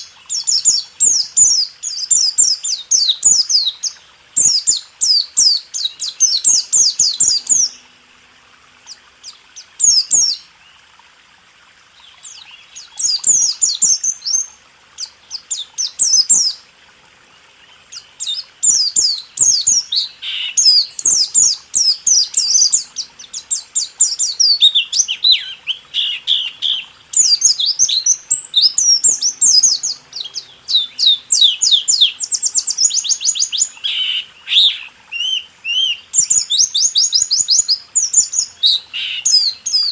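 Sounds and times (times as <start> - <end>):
bird twittering song: 0.0 - 8.0, 8.6 - 11.1, 11.9 - 39.9.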